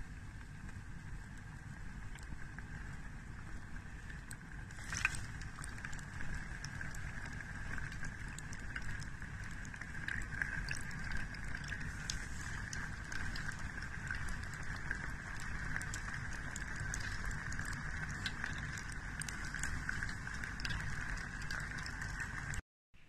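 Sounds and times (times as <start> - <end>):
oil bubbling and crackling: 0.0 - 22.6.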